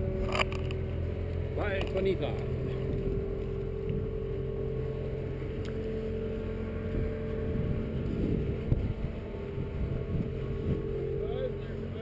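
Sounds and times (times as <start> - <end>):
ferry machinery drone: 0.0 - 12.0.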